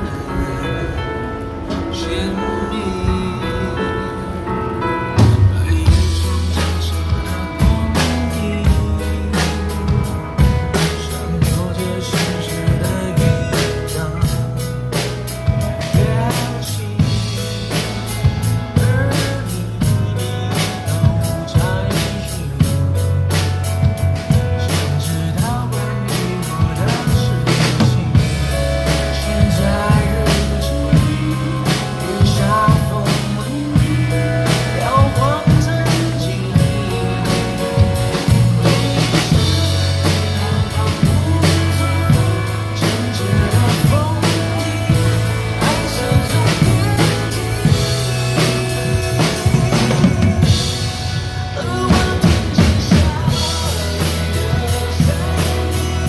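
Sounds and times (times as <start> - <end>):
recorded pop song: 0.0 - 56.0
drum kit playing a steady beat: 3.1 - 56.0.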